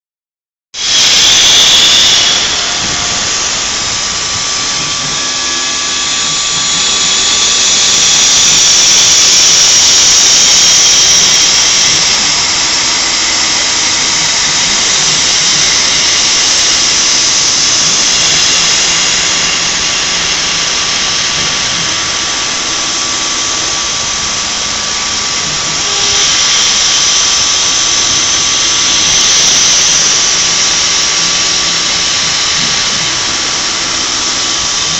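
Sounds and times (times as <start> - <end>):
machine hissing roar: 0.8 - 34.9
thin machine whine: 0.8 - 34.9.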